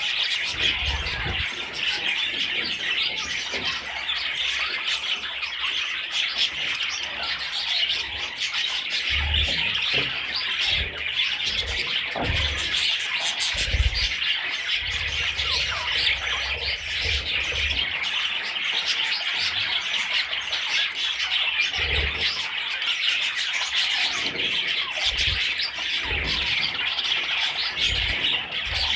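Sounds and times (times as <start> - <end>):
flock of budgerigars chattering: 0.0 - 28.9.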